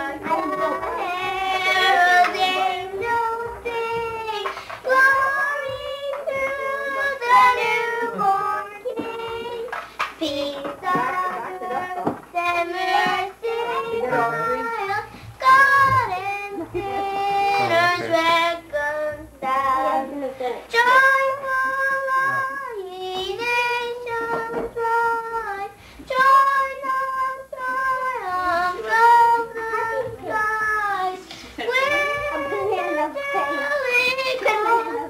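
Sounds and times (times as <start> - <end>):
young children singing: 0.0 - 35.0.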